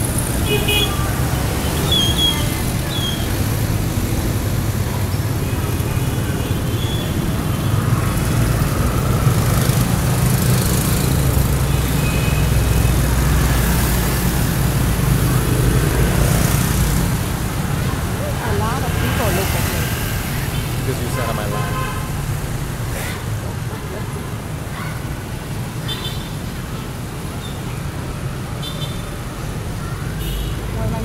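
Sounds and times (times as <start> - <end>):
motorbikes and scooters running: 0.0 - 31.0.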